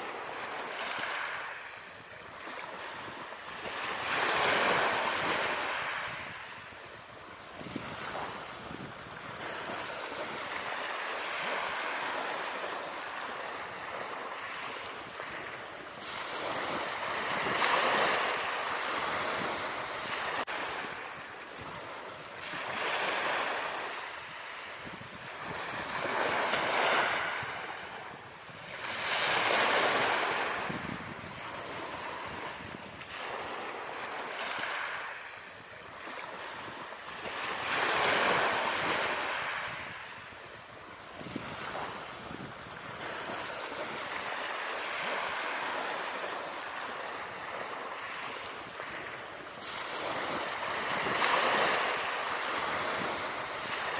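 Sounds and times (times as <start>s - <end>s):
waves breaking on shore: 0.0s - 53.9s.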